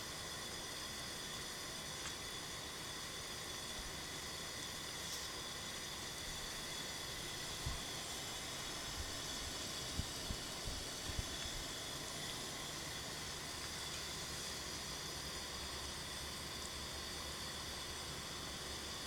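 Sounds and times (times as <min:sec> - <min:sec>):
fan heater hissing: 0:00.0 - 0:19.0.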